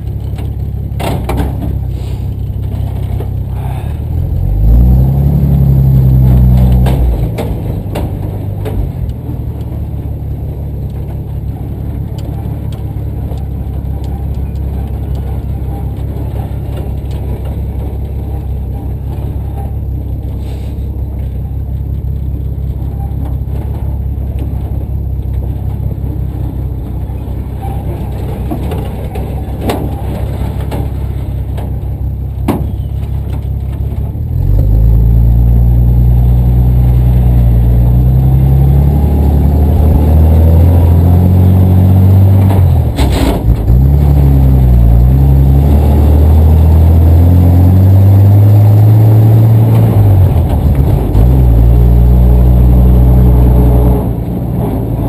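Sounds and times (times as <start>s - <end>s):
truck engine running and revving: 0.0s - 55.0s.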